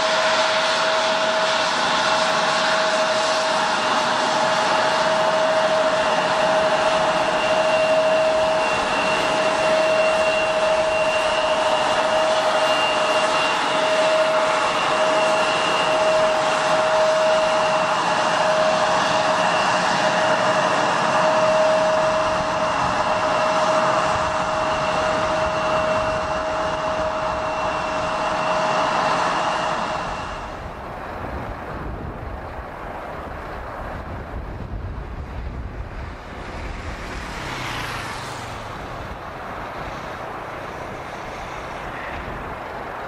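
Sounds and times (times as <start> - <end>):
jet engines whining and rushing: 0.0 - 43.0.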